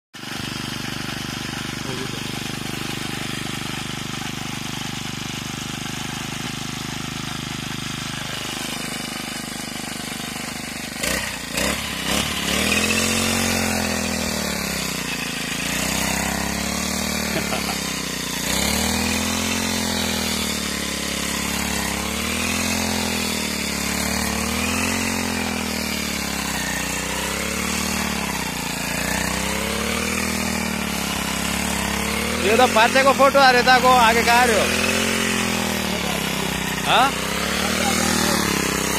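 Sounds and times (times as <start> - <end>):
brush cutter engine revving: 0.2 - 38.9.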